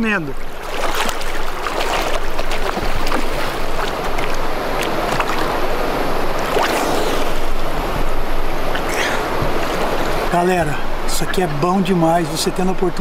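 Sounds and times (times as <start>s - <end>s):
water splashing and churning: 0.0s - 13.0s.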